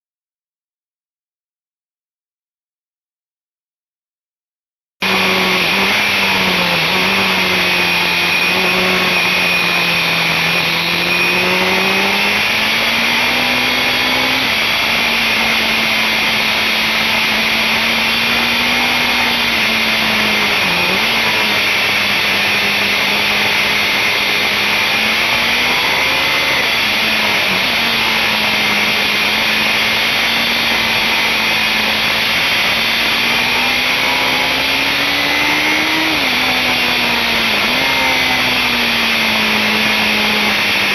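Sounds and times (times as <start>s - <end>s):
motorcycle engine at high revs: 5.0s - 40.9s.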